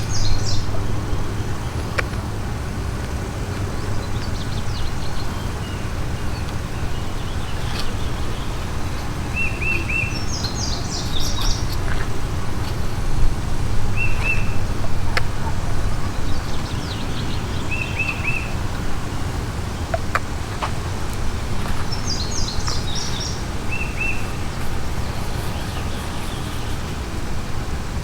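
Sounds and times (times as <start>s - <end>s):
birds twittering: 0.0s - 28.0s
songbirds chirping: 0.0s - 28.0s.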